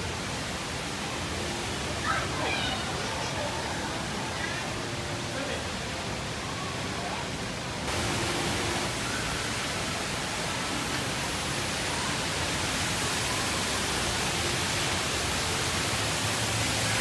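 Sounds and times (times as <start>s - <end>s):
waterfall pouring into pool: 0.0s - 17.0s.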